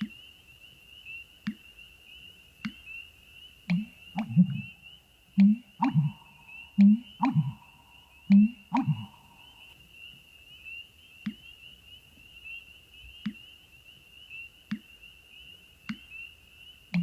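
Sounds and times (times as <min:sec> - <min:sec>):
bird calling with low notes: 0:00.0 - 0:17.0.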